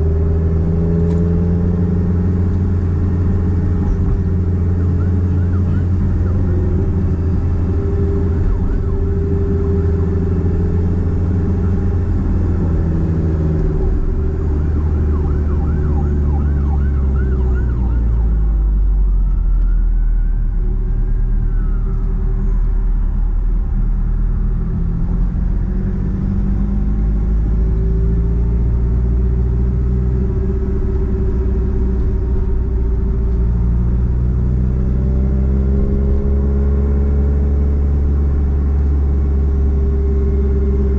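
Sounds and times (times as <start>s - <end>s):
car engine with loud exhaust: 0.0s - 40.9s.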